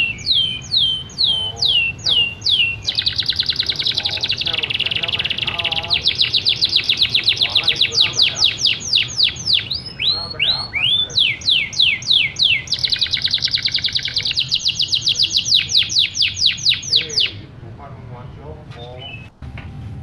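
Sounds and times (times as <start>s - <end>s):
canary singing: 0.0s - 19.3s.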